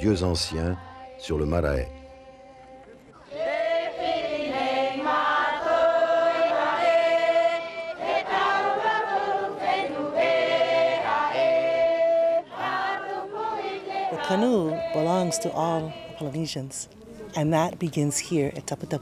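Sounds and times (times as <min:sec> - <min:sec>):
group singing a chant: 0:00.5 - 0:17.4.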